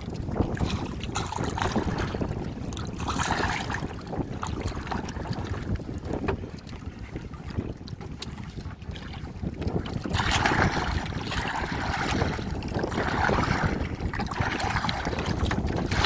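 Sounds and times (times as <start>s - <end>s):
water splashing and sloshing: 0.0s - 16.0s
wind rumbling on microphone: 0.0s - 16.0s.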